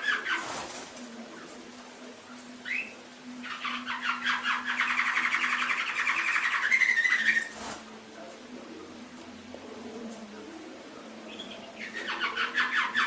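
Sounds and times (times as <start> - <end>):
canary singing: 0.0 - 7.9, 8.8 - 13.0.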